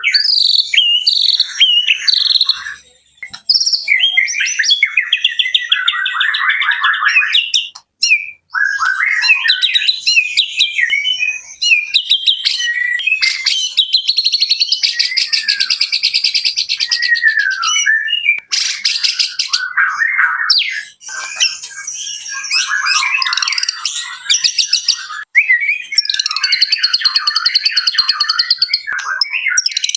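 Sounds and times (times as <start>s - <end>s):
songbird singing whistled phrases: 0.0s - 29.9s.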